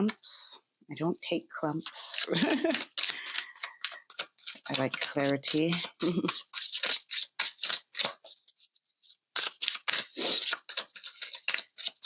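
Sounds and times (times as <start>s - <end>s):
cards being shuffled: 1.8s - 12.0s.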